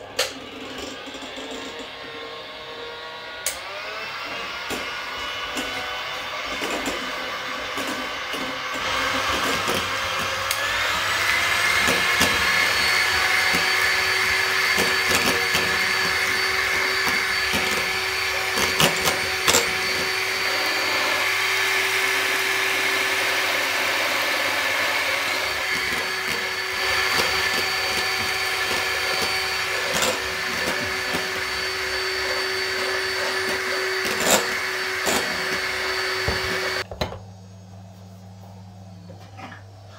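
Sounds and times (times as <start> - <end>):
food mixer motor whine: 0.0 - 36.9.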